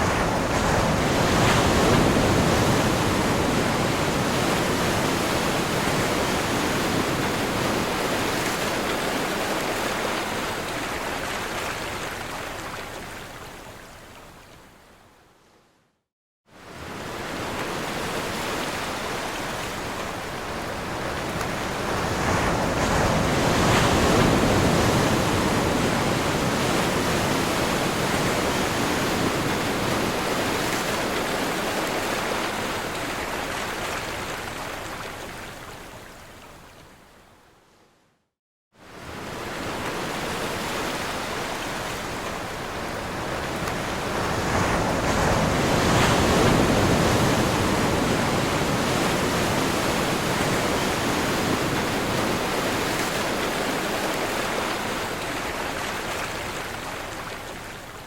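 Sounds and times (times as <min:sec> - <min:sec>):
ocean waves breaking: 0:00.0 - 0:13.0, 0:16.7 - 0:35.1, 0:38.8 - 0:58.0.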